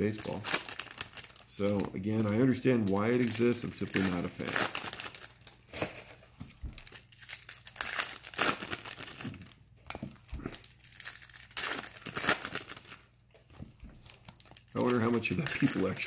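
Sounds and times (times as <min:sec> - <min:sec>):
wrappers crinkling: 0:00.0 - 0:13.1, 0:13.9 - 0:16.0.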